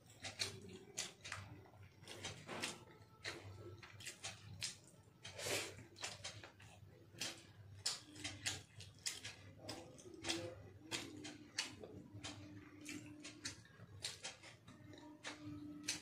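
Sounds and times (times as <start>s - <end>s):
man chewing food: 0.0s - 16.0s.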